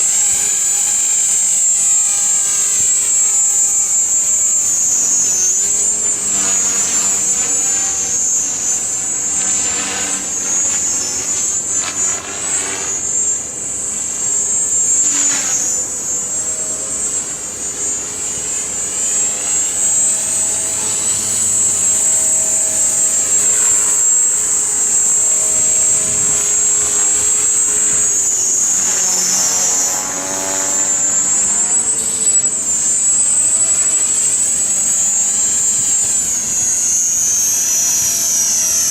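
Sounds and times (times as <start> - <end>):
rc helicopter whine and rotor noise: 0.0 - 38.9.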